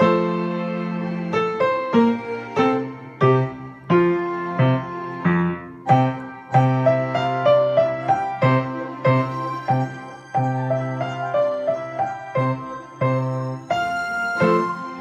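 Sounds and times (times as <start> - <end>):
piano minuet: 0.0 - 15.0.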